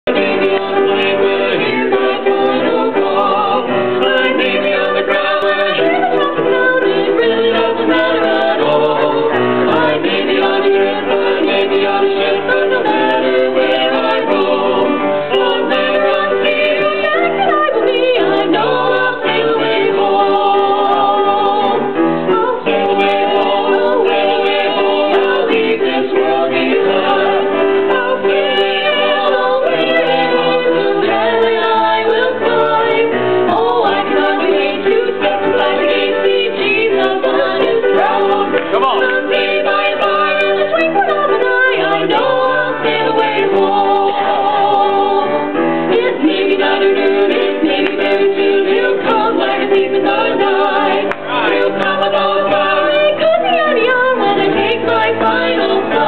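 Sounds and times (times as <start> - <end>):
vocal quartet singing in harmony: 0.0 - 56.0.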